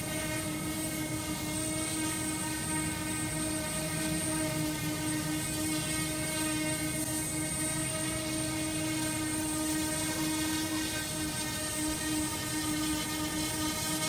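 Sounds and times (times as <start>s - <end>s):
drone propeller whine: 0.0s - 14.0s.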